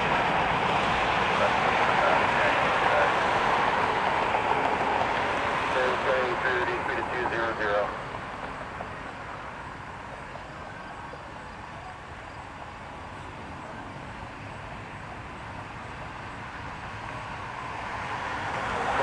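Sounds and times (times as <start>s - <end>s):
distant vehicle and engine rumble: 0.0s - 19.0s.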